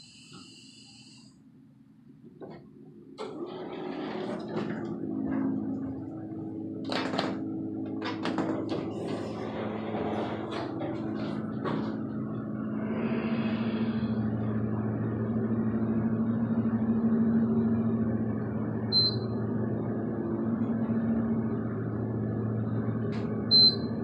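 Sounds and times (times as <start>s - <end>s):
elevator machine hum: 2.2s - 24.0s.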